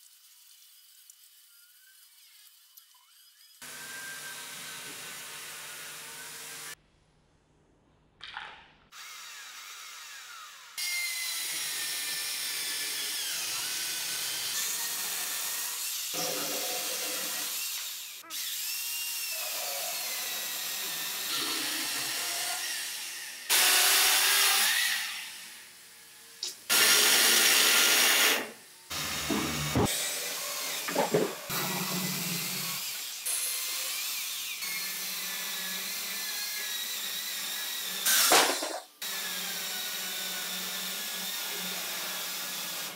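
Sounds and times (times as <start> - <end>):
electric chainsaw cutting wood: 3.3 - 6.8, 8.9 - 42.9.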